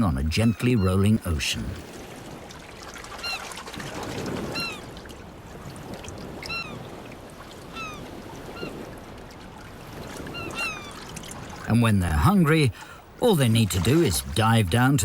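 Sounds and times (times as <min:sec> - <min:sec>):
sea water washing: 0:00.0 - 0:15.0.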